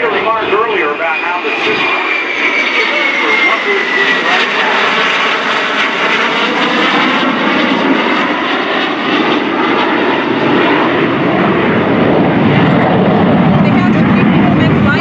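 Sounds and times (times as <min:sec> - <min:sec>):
jet aircraft roaring past: 0:00.0 - 0:15.0.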